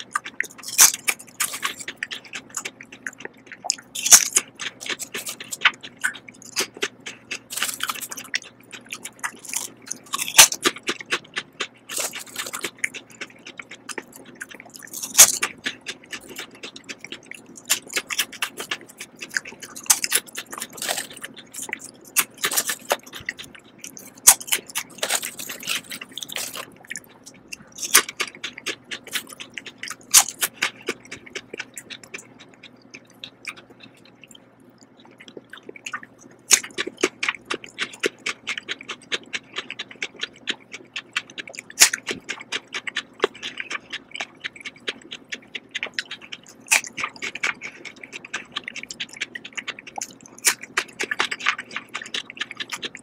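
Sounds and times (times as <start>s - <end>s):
potato chips crunching: 0.0s - 34.1s, 35.0s - 53.0s.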